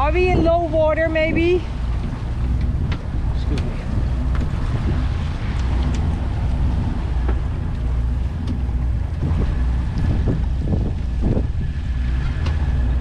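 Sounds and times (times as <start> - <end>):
boat engines droning: 0.0 - 13.0
wind buffeting microphone: 0.0 - 13.0.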